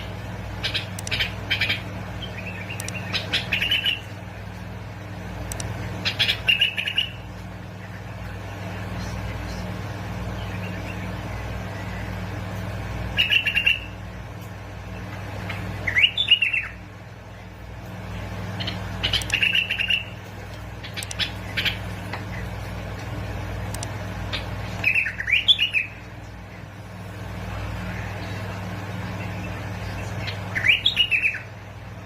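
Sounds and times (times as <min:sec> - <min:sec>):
bird singing bubbling phrases: 0:00.0 - 0:04.4, 0:05.2 - 0:14.0, 0:14.8 - 0:32.0
steady low hum: 0:00.0 - 0:32.0.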